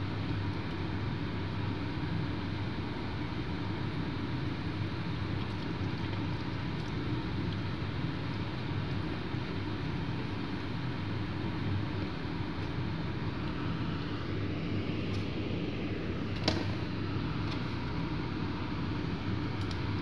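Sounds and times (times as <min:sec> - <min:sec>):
fan-like hum and hiss: 0:00.0 - 0:20.0.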